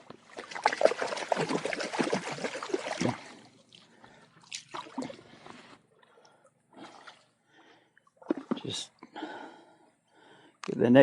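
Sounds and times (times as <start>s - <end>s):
water splashing and trickling: 0.0s - 9.0s.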